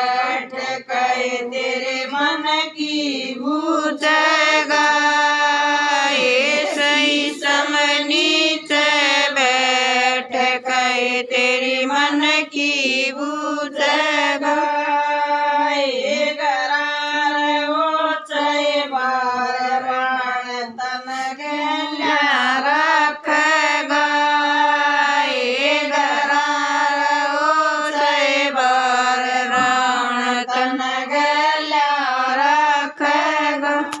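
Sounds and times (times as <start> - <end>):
women singing in unison: 0.0 - 34.0.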